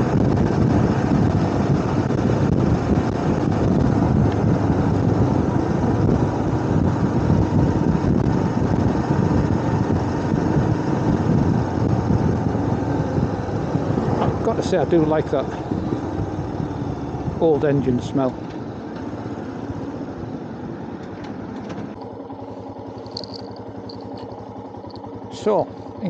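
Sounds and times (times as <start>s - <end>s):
wind rush on microphone: 0.0s - 22.0s
motorcycle engine running: 0.0s - 26.0s
road noise: 0.0s - 26.0s.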